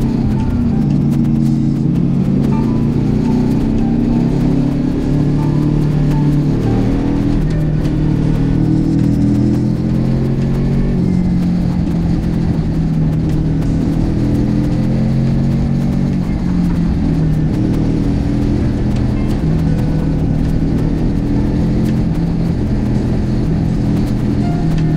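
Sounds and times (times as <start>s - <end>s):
motorcycle engine running: 0.0s - 24.9s
wind noise on microphone: 0.0s - 24.9s.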